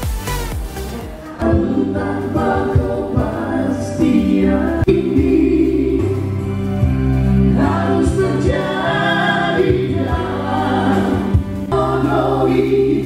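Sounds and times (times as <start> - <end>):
band accompaniment: 0.0 - 12.8
men singing into microphones: 1.4 - 6.6, 7.5 - 13.0.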